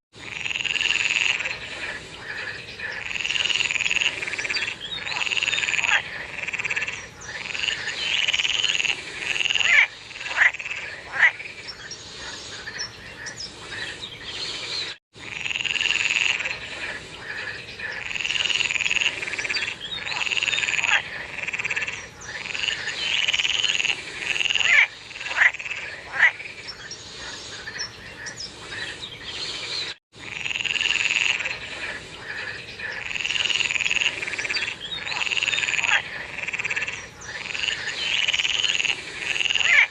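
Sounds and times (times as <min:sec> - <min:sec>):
frogs croaking: 0:00.2 - 0:14.6, 0:15.2 - 0:29.5, 0:30.2 - 0:39.9.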